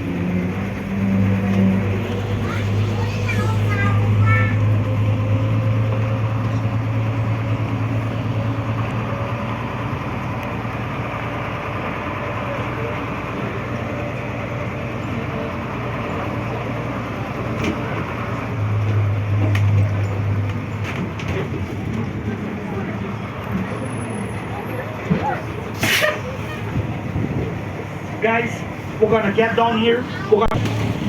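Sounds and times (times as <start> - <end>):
bus engine drone: 0.0 - 31.0
road noise: 0.0 - 31.0.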